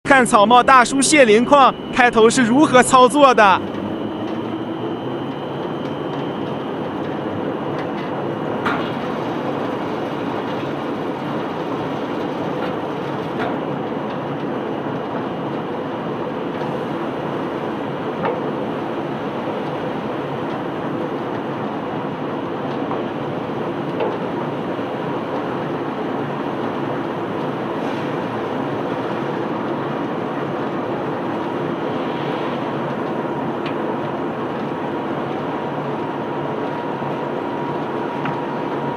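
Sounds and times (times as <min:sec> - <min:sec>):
conveyor belt running: 0:00.0 - 0:38.9.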